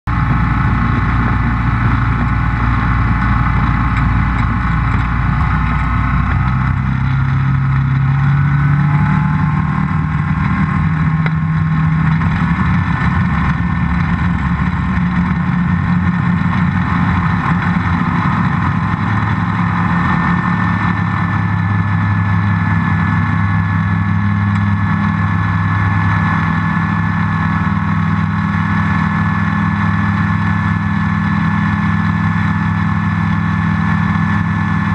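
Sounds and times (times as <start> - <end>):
aircraft engine and propeller: 0.0 - 34.9.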